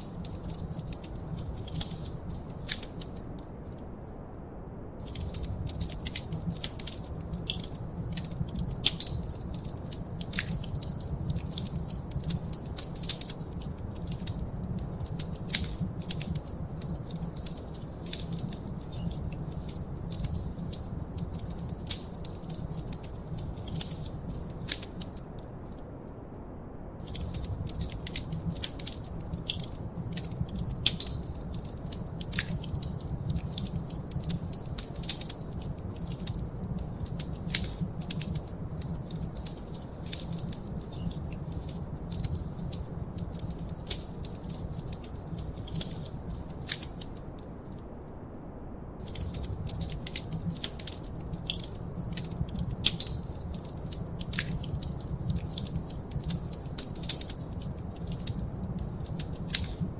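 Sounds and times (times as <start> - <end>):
wood fire crackling: 0.0 - 3.9, 5.0 - 26.3, 27.0 - 48.4, 49.0 - 59.9.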